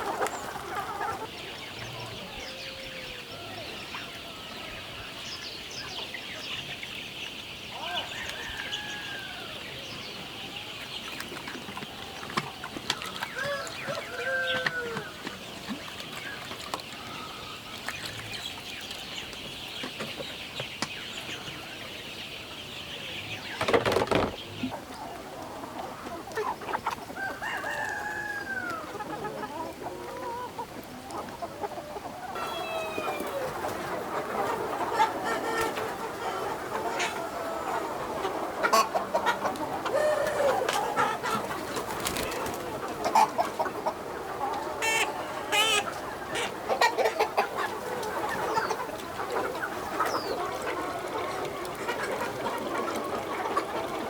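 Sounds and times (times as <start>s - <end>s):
chickens clucking and calling: 0.0s - 54.0s.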